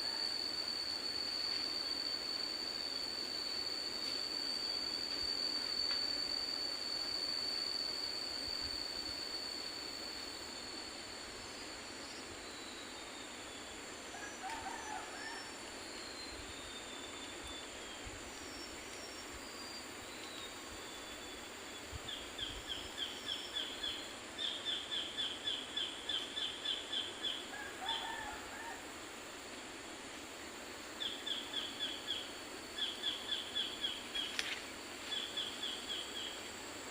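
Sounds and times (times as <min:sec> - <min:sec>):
soft even hiss: 0:00.0 - 0:36.9.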